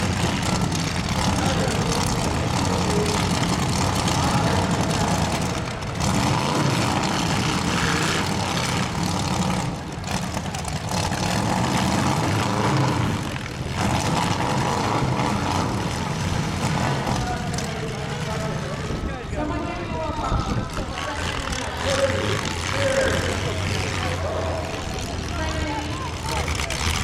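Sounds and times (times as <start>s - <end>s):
car engines running hard: 0.0s - 27.0s.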